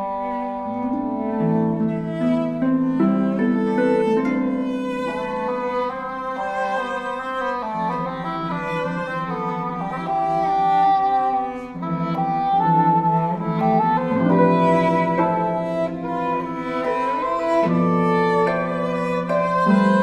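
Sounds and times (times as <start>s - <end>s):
cello bowed low notes: 0.0s - 20.0s.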